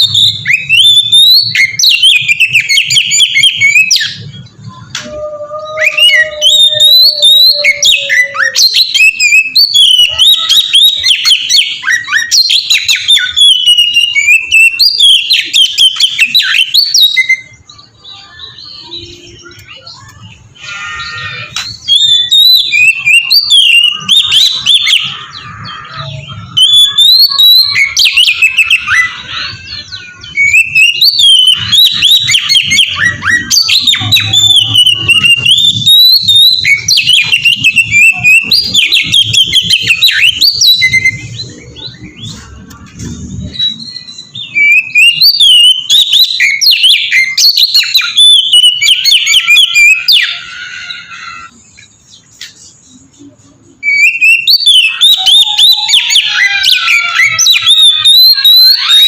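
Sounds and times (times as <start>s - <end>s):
bird singing whistled phrases: 0.0s - 59.0s.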